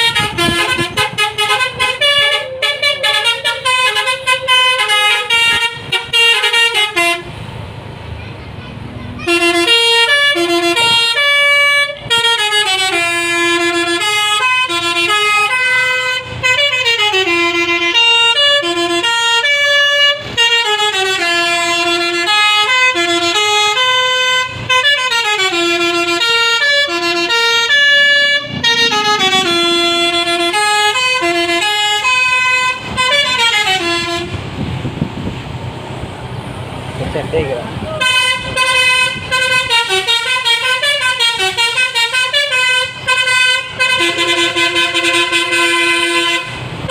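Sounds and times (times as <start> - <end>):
multi-tone bus horn melody: 0.0 - 7.5, 8.1 - 35.3, 37.1 - 46.9
road rumble: 0.0 - 46.9.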